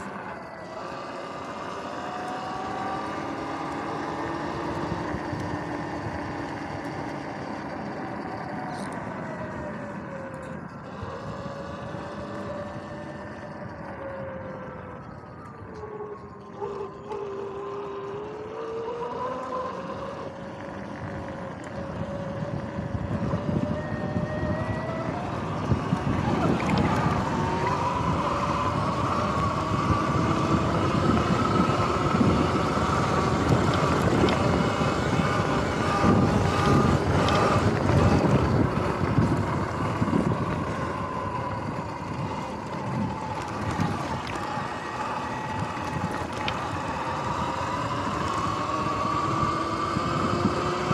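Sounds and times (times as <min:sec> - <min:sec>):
bike rattling over bumps: 0:00.0 - 0:50.9
electric motor whine: 0:00.0 - 0:50.9
wind on microphone: 0:00.0 - 0:50.9.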